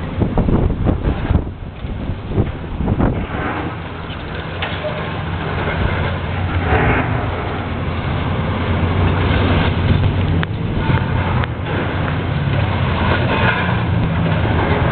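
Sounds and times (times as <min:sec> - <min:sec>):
diesel engine running under load: 0:00.0 - 0:14.9.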